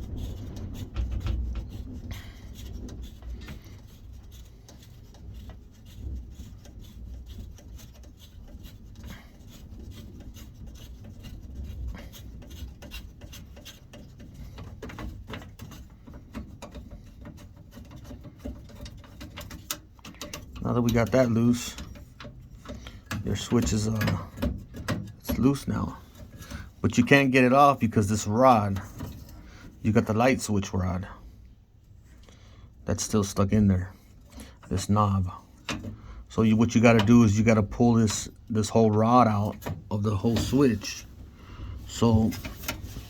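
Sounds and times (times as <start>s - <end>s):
nut rubbing and scraping: 0.0s - 31.5s, 32.9s - 43.0s.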